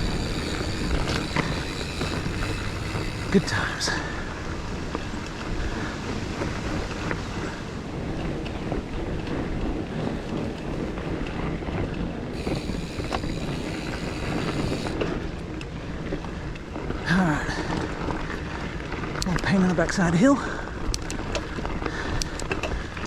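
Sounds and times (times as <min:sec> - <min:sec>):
bike rattling and knocking: 0:00.0 - 0:05.6, 0:06.4 - 0:23.0
bike tyres rolling on dirt: 0:00.0 - 0:23.0
wind buffeting microphone: 0:00.0 - 0:23.0.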